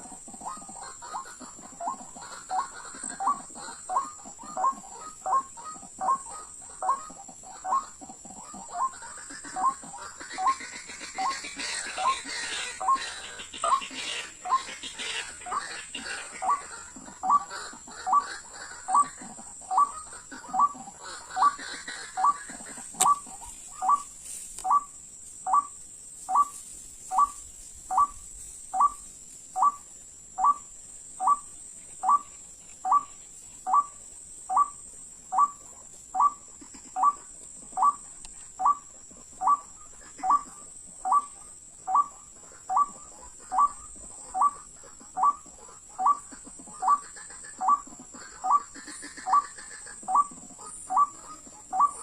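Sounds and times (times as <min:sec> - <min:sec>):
waterhen calling: 0:00.0 - 0:52.0.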